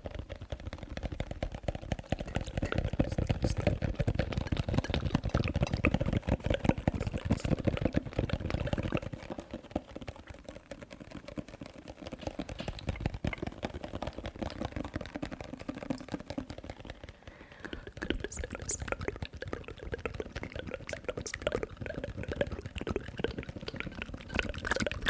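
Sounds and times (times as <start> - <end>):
close clicking and tapping: 0.0 - 25.0.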